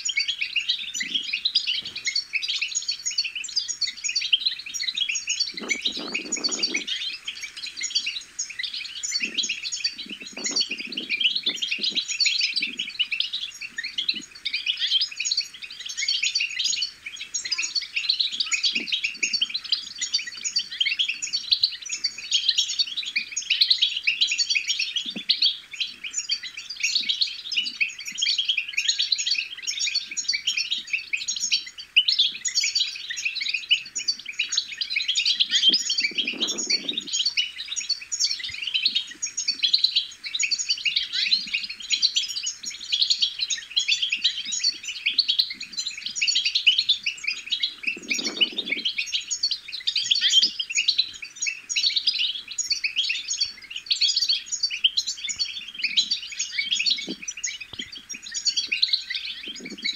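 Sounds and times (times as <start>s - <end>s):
finch twittering song: 0.0s - 59.9s.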